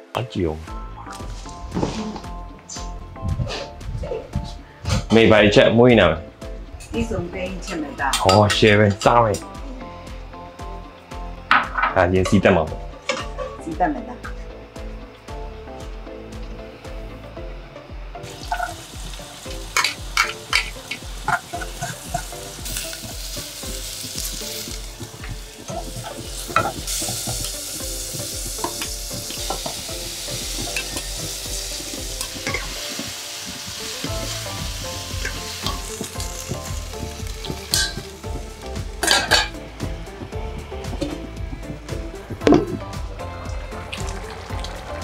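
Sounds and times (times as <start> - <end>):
paste frying and sizzling: 0.0 - 45.0.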